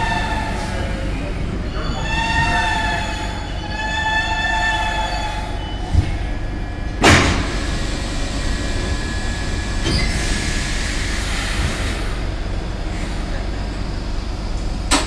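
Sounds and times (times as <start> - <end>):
subway car whine: 0.0 - 15.0.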